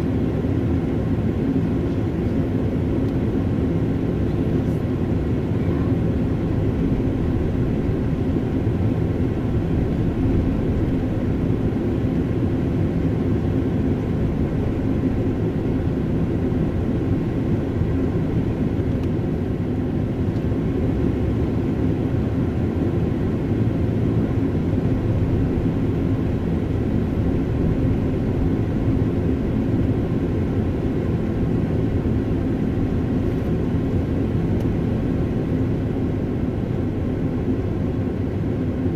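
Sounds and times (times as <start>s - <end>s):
car engine and tyres rumbling: 0.0s - 37.2s.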